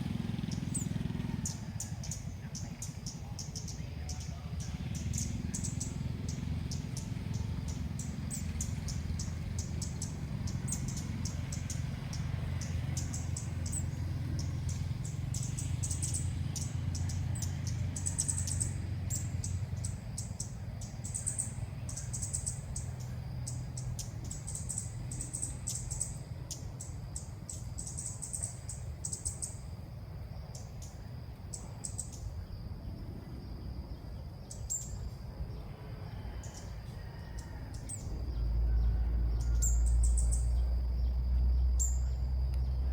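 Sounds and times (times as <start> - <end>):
birds chirping: 0.0 - 42.9
steady low rumble: 0.0 - 42.9.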